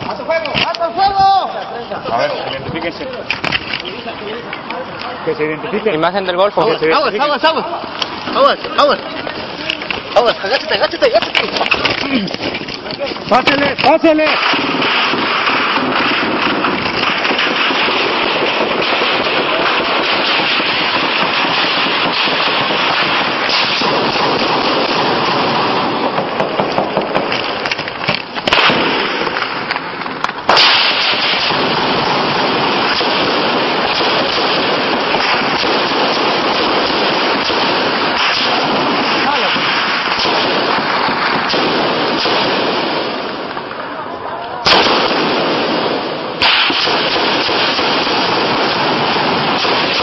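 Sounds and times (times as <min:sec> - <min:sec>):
continuous gunfire: 0:06.6 - 0:43.9, 0:44.6 - 0:50.0.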